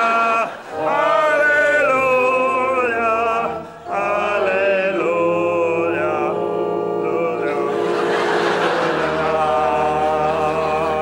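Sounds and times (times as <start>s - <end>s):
congregation singing a hymn: 0.0s - 11.0s.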